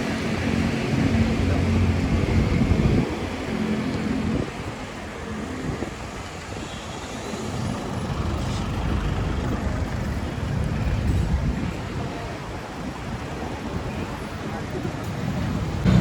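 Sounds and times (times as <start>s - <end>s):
motor vehicle engines rumbling: 0.0s - 16.0s.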